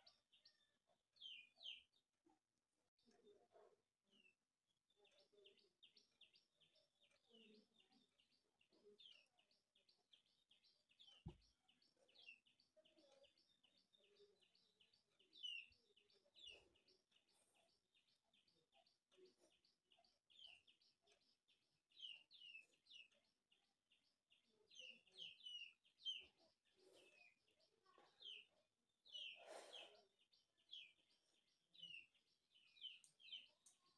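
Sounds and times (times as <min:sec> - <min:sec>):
bird chirping: 0:00.0 - 0:02.1, 0:03.0 - 0:33.9.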